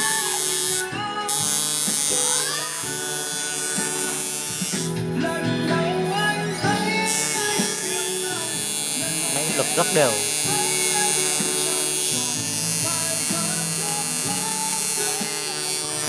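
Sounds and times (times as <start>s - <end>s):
pop song with singing: 0.0s - 16.0s
tattoo machine buzzing: 0.0s - 16.0s.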